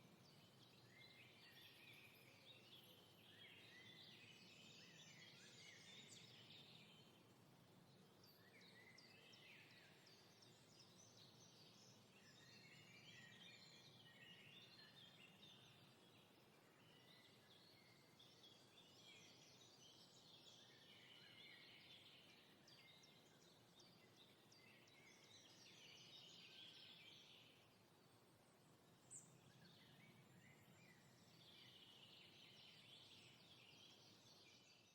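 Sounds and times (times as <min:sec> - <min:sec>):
faint birds chirping: 0:00.0 - 0:34.9.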